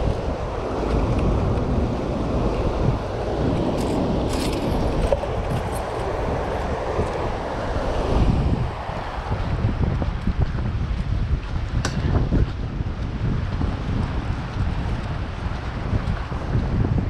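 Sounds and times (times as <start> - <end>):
rushing churning water: 0.0 - 17.0
wind buffeting microphone: 0.0 - 17.0.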